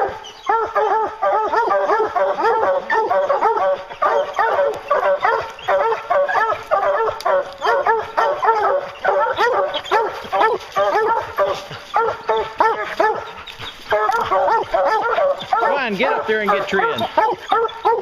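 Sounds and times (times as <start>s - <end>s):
hounds barking: 0.0s - 18.0s.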